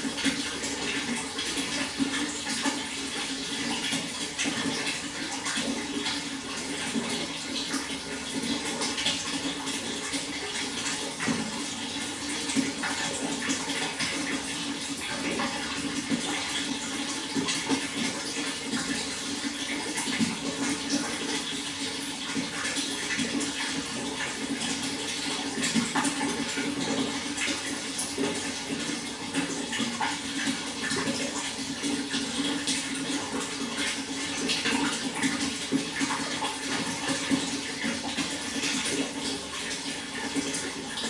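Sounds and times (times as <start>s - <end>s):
water flowing and splashing: 0.0s - 41.0s.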